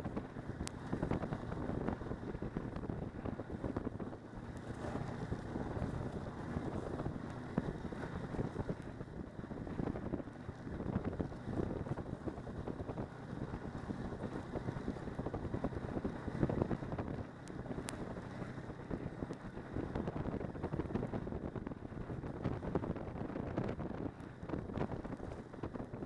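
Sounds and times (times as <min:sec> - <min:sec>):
snowmobile engine running: 0:00.0 - 0:26.0
wind buffeting microphone: 0:00.0 - 0:26.0.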